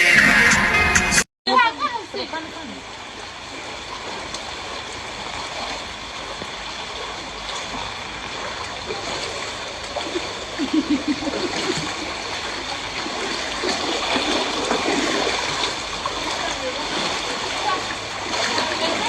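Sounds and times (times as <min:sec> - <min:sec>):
floodwater flowing: 0:01.5 - 0:19.0
water gurgling and splashing: 0:01.8 - 0:19.0.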